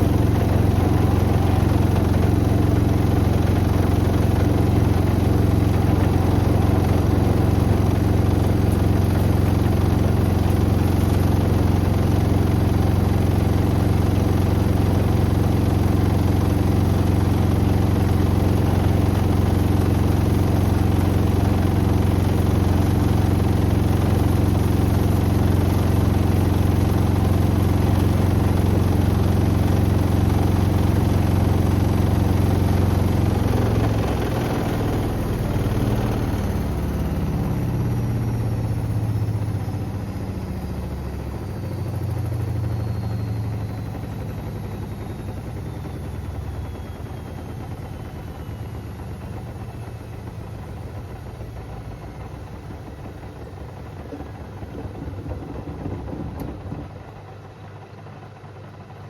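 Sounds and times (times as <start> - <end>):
drum slowing with falling whine: 0.0 - 58.0
washing machine spinning: 0.0 - 59.0.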